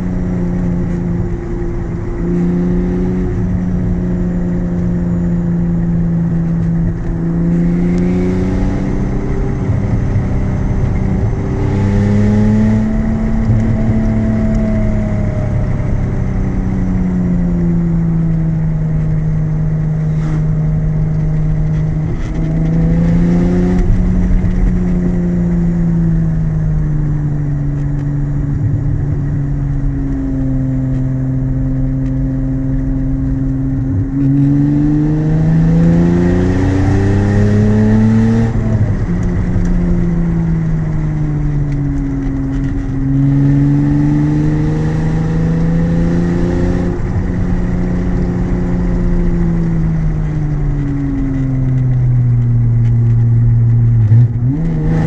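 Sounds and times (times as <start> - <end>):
car engine revving in cabin: 0.0 - 55.0
gear change: 0.0 - 55.0.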